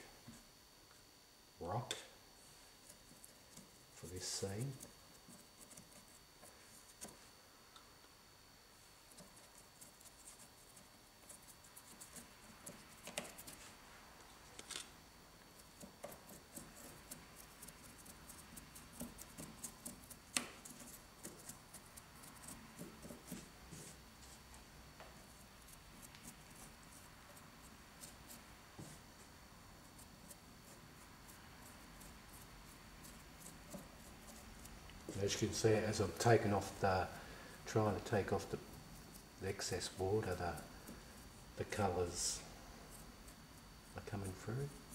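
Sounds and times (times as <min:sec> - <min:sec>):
faint steady high whine: 0:00.0 - 0:44.9
paintbrush scratching and ticking: 0:02.8 - 0:07.3, 0:08.8 - 0:13.8, 0:15.4 - 0:37.1, 0:37.7 - 0:44.9.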